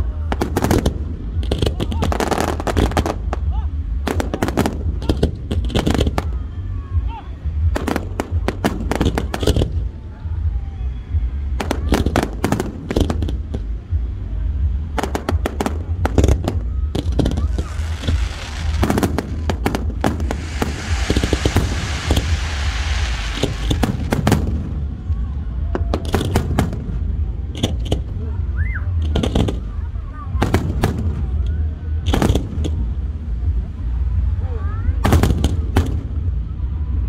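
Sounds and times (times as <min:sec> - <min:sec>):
fireworks crackling hiss: 0:00.1 - 0:06.4, 0:11.2 - 0:36.4
fireworks bangs: 0:00.2 - 0:06.4, 0:07.6 - 0:10.0, 0:11.2 - 0:34.3, 0:34.9 - 0:36.5.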